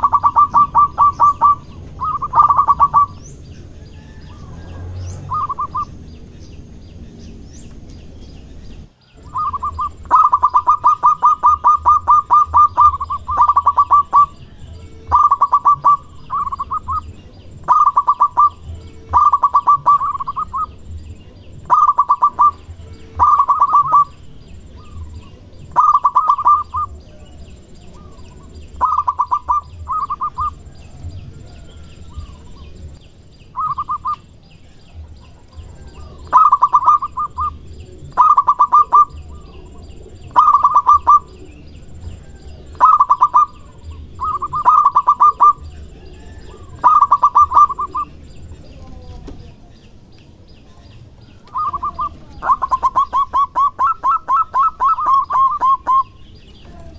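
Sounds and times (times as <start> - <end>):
dove cooing: 0.0 - 6.3, 8.4 - 49.6, 51.3 - 56.9.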